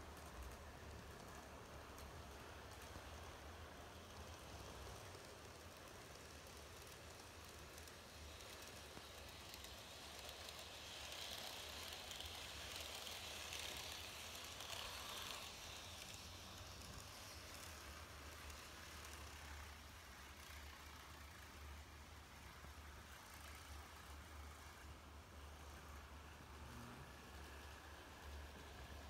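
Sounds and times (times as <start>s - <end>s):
model train running on track: 0.0s - 29.0s.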